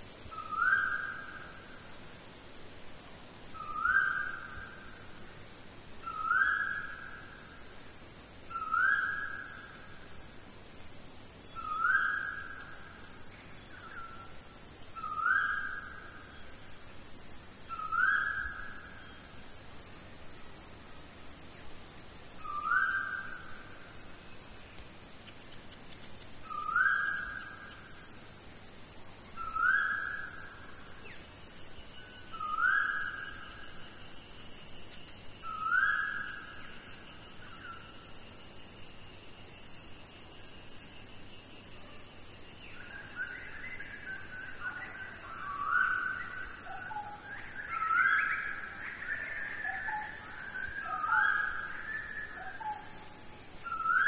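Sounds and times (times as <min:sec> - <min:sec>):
steady high hiss: 0:00.0 - 0:54.0.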